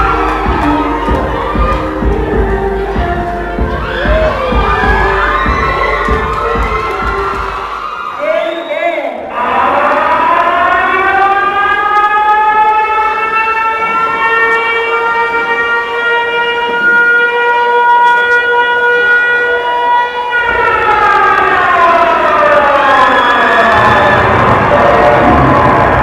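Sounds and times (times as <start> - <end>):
siren wail in backing track: 0.0 - 8.2, 9.4 - 26.0.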